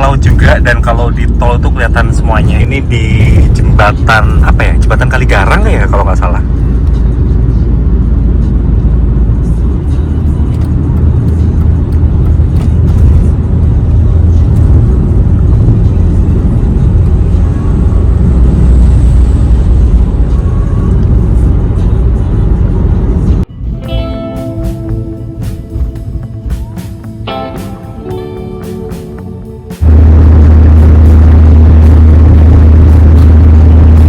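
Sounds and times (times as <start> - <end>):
car road and wind noise: 0.0 - 34.0.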